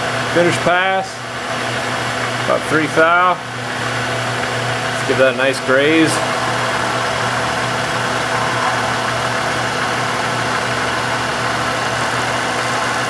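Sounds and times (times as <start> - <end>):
milling machine cutting wood: 2.1 - 13.0.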